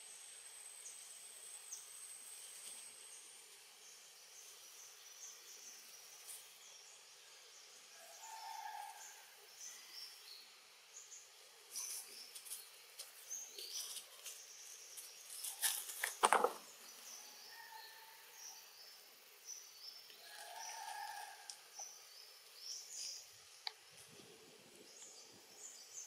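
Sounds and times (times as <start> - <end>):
high insect whine: 0.0 - 26.0.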